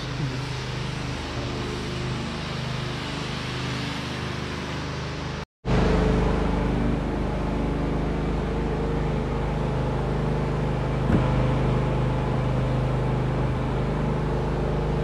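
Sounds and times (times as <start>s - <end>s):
vehicle running hum and hiss: 0.0s - 15.0s.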